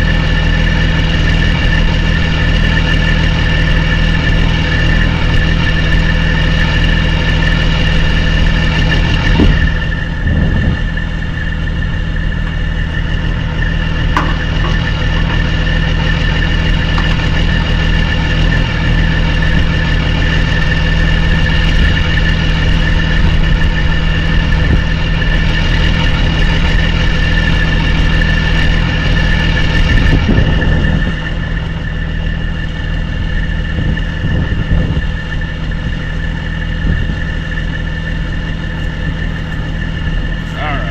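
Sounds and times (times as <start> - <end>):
constant high whine: 0.0 - 40.9
diesel truck engine idling: 0.0 - 40.9.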